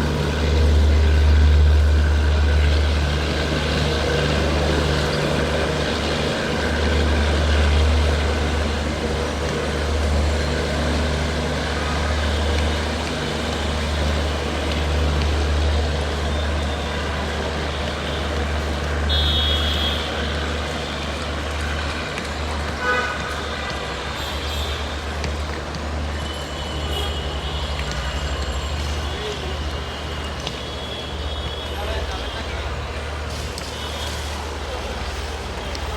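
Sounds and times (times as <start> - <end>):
engines humming: 0.0 - 35.9.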